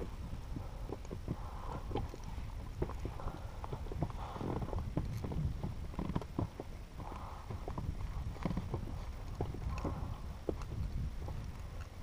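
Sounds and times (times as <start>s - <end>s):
wind rumble on microphone: 0.0s - 12.0s
knocks and taps on inflatable boat: 0.6s - 11.4s.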